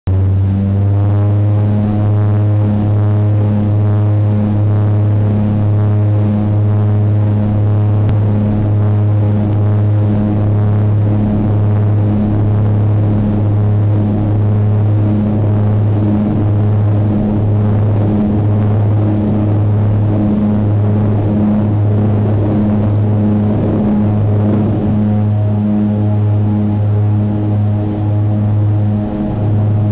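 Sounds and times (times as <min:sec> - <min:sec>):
turboprop engines droning: 0:00.1 - 0:29.9.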